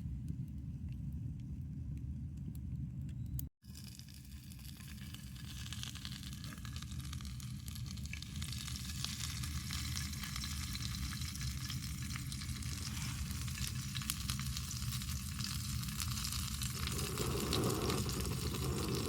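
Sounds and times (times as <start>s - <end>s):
food sizzling in a pan: 3.7s - 19.0s.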